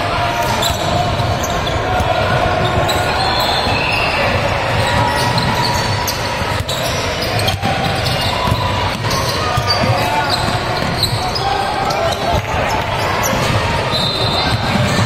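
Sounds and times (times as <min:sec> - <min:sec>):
echoing din of crowd: 0:00.0 - 0:15.0
basketball bouncing on court: 0:00.5 - 0:15.0.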